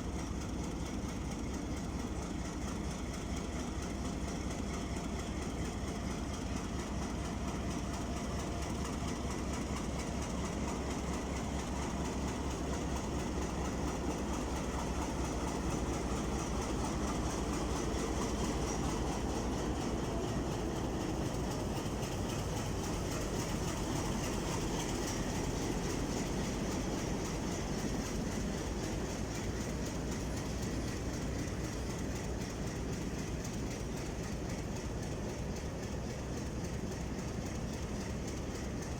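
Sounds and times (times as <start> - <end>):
low pulsing train rumble: 0.0 - 38.9
train wheels clicking over rail joints: 0.0 - 38.9.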